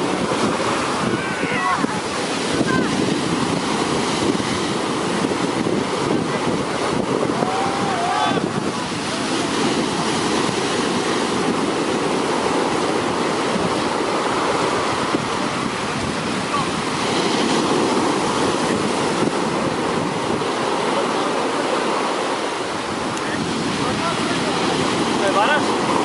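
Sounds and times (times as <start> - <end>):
sea waves breaking on beach: 0.0 - 26.0.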